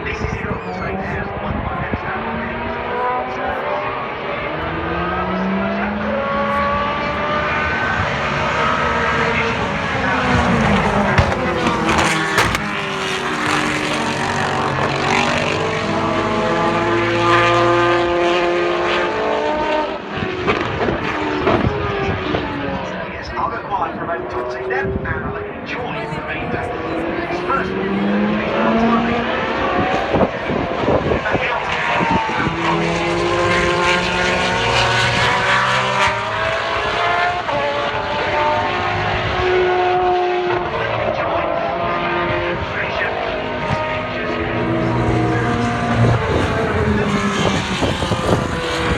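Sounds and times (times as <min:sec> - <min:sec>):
racing engine screaming: 0:00.0 - 0:48.9.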